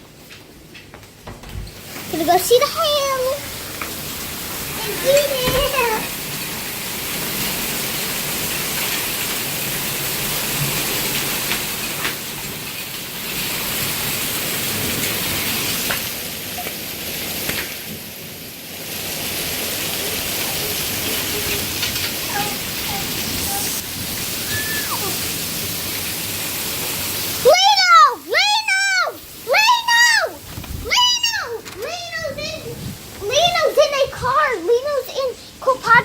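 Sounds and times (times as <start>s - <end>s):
heavy rain and hail: 0.0s - 36.0s.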